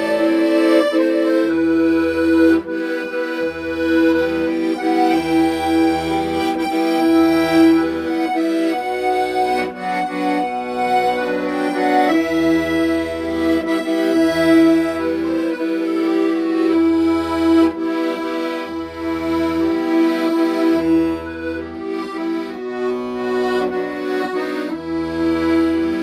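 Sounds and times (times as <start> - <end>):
accordion slow melody: 0.0 - 26.0.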